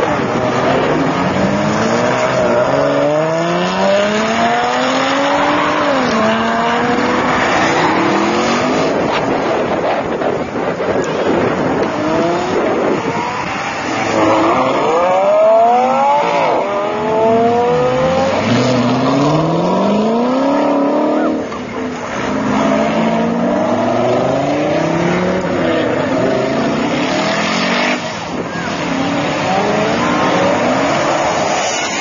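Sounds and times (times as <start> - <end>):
sports car engines accelerating: 0.0 - 32.0.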